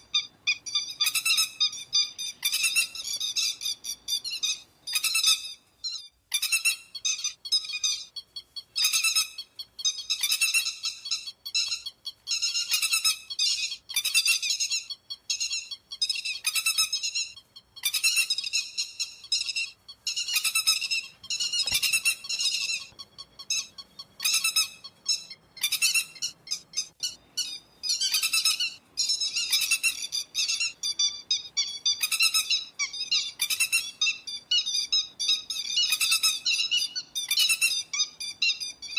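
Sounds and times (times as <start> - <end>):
lapwing calls: 0.0 - 38.9.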